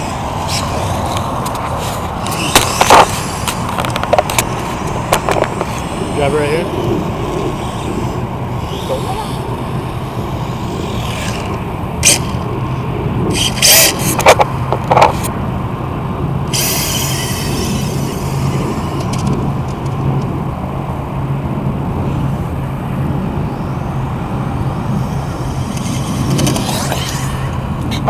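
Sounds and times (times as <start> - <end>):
rc car motor whine: 0.0 - 15.3, 16.4 - 20.9, 22.0 - 28.0
steady low hum: 0.0 - 28.0.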